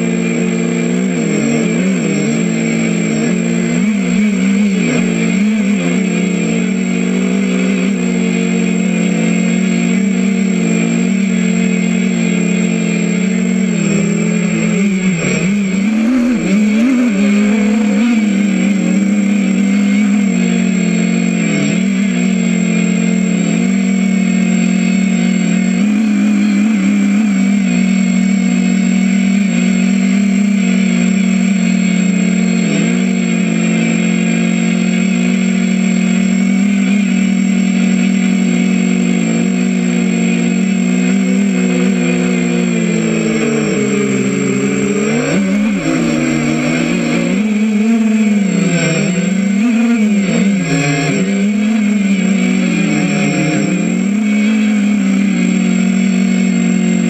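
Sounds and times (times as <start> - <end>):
drone motors buzzing: 0.0 - 57.0.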